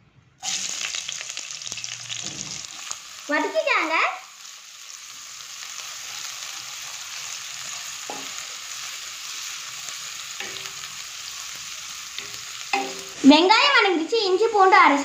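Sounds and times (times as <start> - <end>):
onions sizzling in oil: 0.4 - 15.0.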